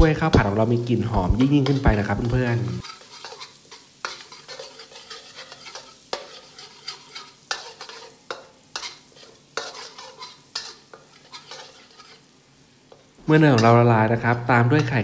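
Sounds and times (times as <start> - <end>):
light sizzle of frying: 0.0 - 15.0
metal spatula scraping a wok: 0.3 - 12.4.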